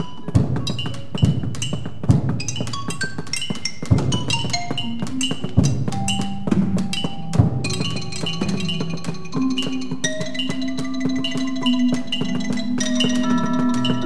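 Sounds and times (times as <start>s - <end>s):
mallet instrument notes: 0.0s - 14.0s.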